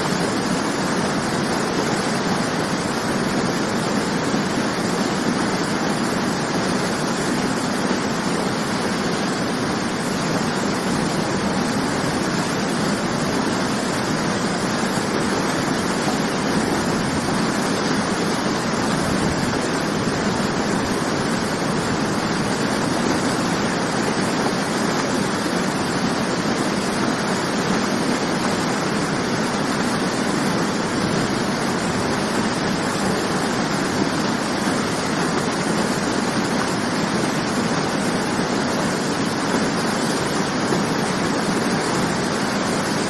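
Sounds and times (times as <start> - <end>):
waterfall crashing into pool: 0.0 - 43.0.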